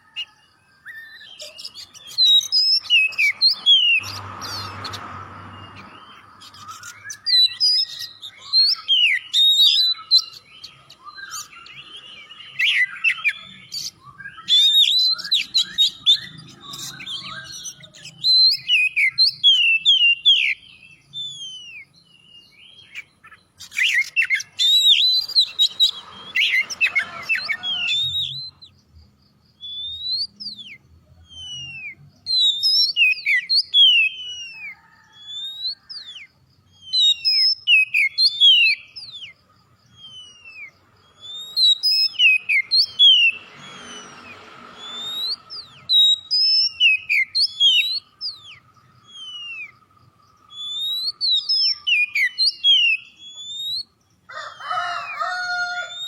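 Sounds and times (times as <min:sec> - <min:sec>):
bird singing whistled phrases: 0:06.5 - 0:28.6, 0:29.6 - 0:49.8, 0:50.5 - 0:54.0.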